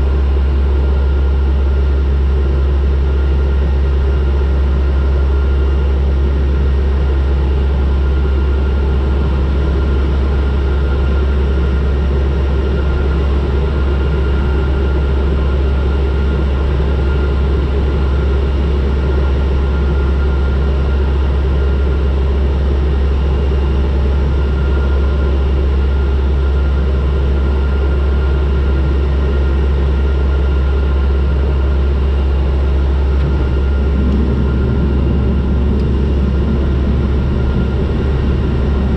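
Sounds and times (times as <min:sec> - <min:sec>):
airplane engine drone: 0:00.0 - 0:38.9
faint engine whine: 0:00.0 - 0:38.9.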